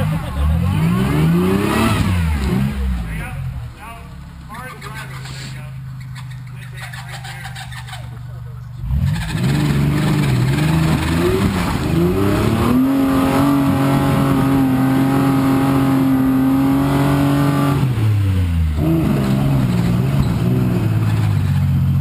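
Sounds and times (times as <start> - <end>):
off-road engine revving: 0.0 - 22.0.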